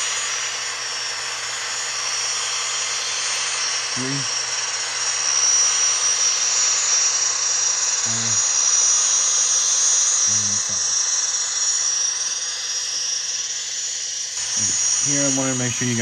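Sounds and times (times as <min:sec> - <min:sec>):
high-pitched turbine whine: 0:00.0 - 0:16.0
hiss: 0:00.0 - 0:16.0.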